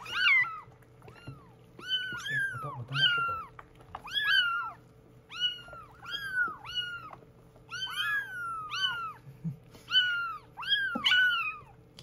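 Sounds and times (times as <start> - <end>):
kittens mewing: 0.0 - 11.9.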